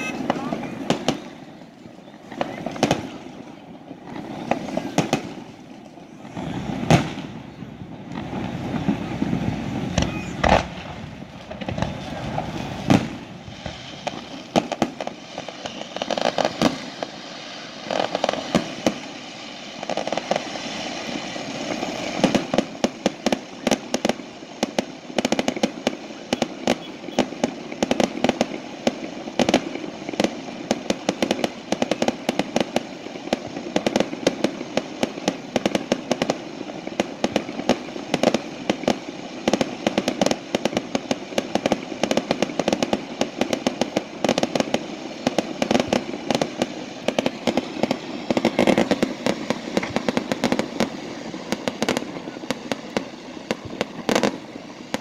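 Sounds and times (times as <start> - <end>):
fireworks exploding: 0.0 - 55.0
string of sharp firework cracks: 0.0 - 55.0.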